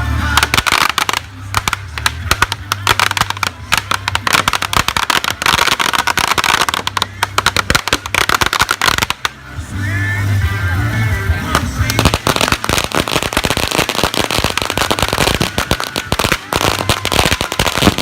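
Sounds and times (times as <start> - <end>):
firecrackers popping: 0.0 - 18.0.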